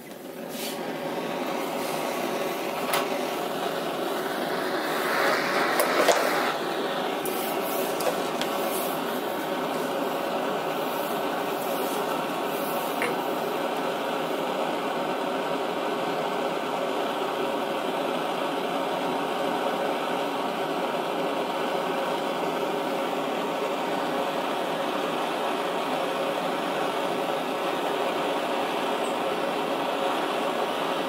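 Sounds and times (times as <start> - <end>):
blowtorch hissing: 0.0 - 31.0.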